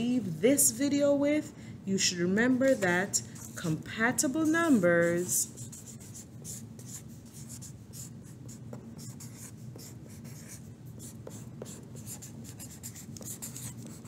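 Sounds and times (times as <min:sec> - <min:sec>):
faint low hum: 0:00.0 - 0:14.0
marker scratching on paper: 0:02.4 - 0:14.0.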